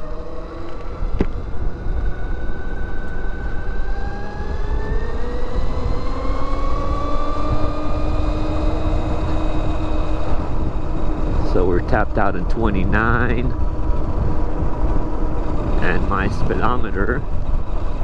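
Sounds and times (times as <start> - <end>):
electric motor whining: 0.0 - 18.0
wind rumble on microphone: 0.0 - 18.0.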